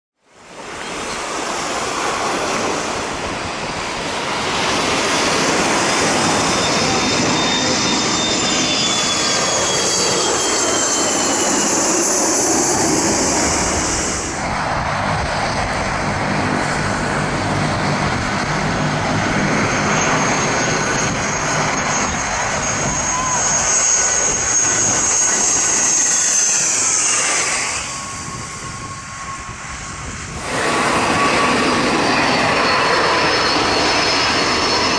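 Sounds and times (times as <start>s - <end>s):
jet airliner passing low: 0.3s - 34.9s
turboprop propeller drone: 2.4s - 34.9s.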